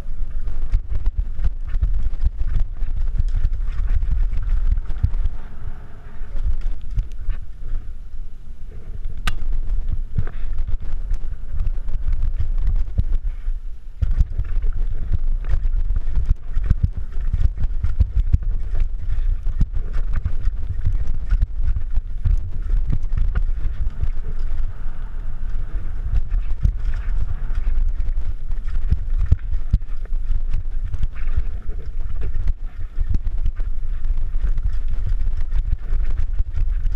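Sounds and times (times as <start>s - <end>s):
bike rattling over rocks: 0.0s - 7.9s, 9.1s - 36.9s
wind buffeting microphone: 0.0s - 36.9s.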